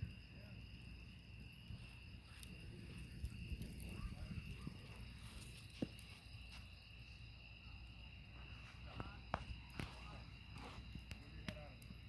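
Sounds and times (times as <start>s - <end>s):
sharp pops of fire: 0.0s - 6.8s, 8.8s - 12.0s
campfire crackling: 0.0s - 12.0s
crickets chirring: 0.0s - 12.0s.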